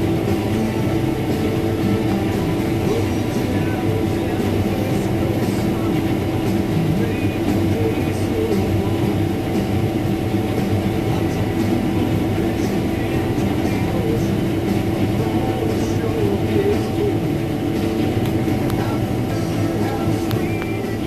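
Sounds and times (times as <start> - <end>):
combine harvester droning: 0.0 - 21.0.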